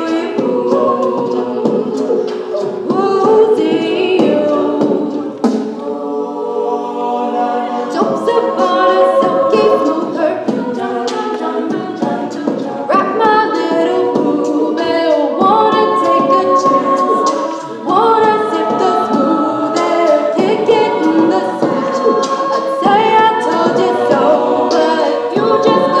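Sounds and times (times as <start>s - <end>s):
vocal group singing in harmony: 0.0s - 26.0s.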